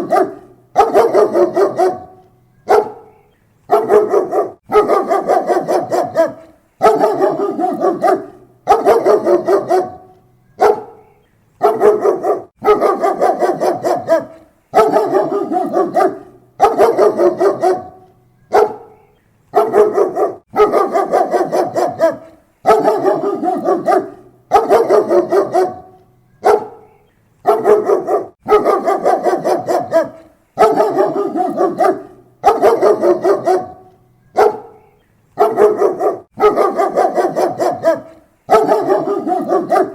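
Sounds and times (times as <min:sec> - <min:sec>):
dog barking: 0:00.0 - 0:11.0, 0:11.6 - 0:39.9.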